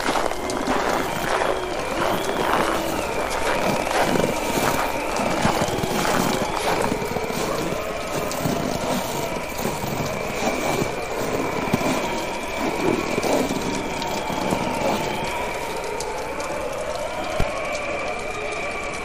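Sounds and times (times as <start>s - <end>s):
bonfire crackling and popping: 0.0s - 19.0s.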